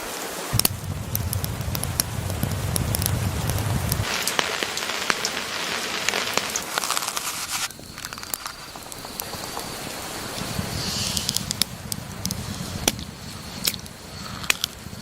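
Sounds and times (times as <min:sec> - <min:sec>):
rain drops ticking on surface: 0:00.0 - 0:15.0
low rumble of thunder: 0:00.6 - 0:06.6, 0:08.8 - 0:15.0.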